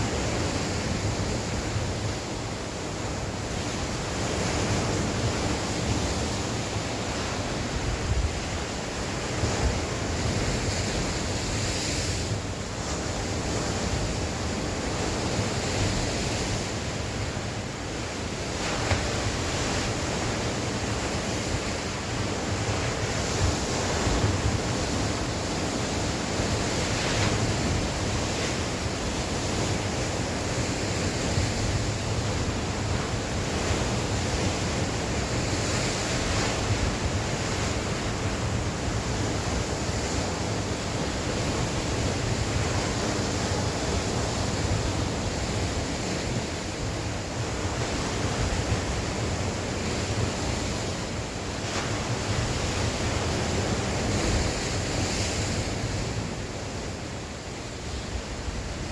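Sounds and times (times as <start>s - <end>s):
waves breaking on shore: 0.0s - 58.9s.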